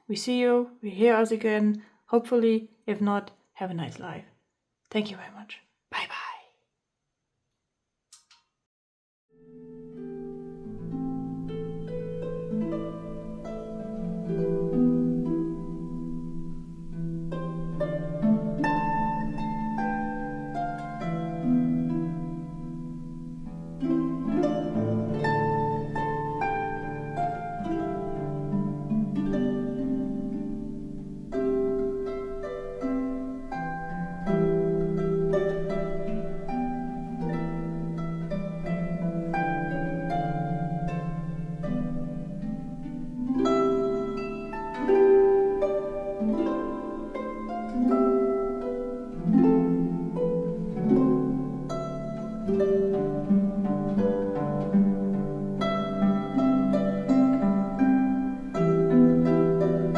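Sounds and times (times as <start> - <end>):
plucked harp-like notes: 9.4 - 59.9.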